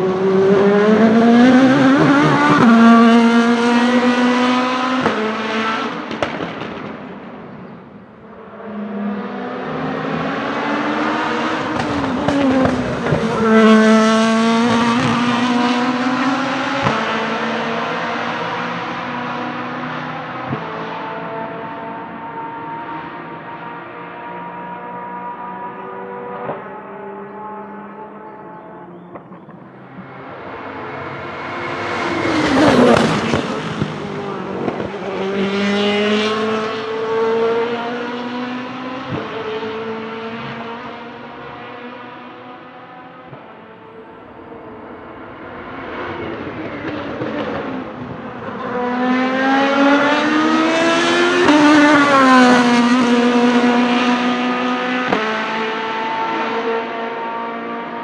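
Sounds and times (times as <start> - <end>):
race car passing by: 0.0 - 7.8, 8.4 - 58.0.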